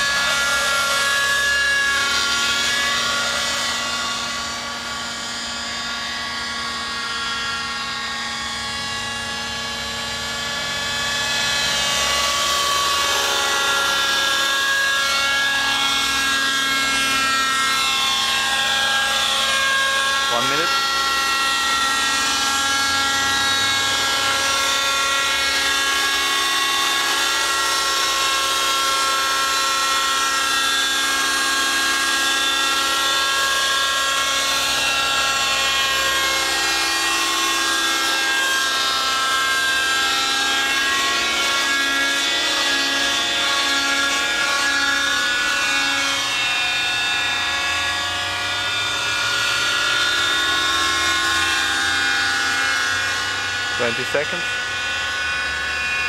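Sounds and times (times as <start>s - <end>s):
model helicopter engine buzzing: 0.0s - 56.0s.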